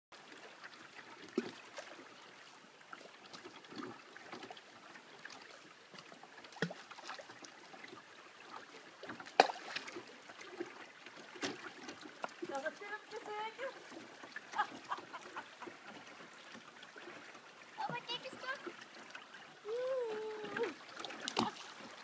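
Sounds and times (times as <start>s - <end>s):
water trickling over stones: 0.2s - 22.0s.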